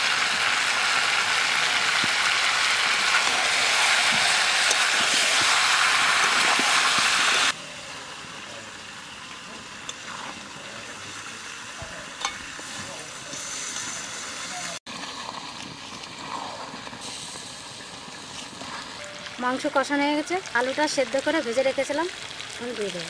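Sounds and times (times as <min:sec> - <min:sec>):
chicken sizzling in a wok: 0:00.0 - 0:23.0.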